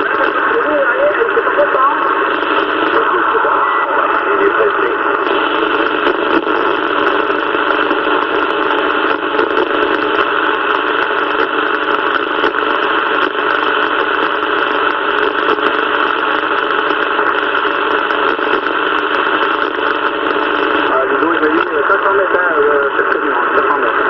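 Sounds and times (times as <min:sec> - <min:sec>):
radio static hissing: 0:00.0 - 0:24.0.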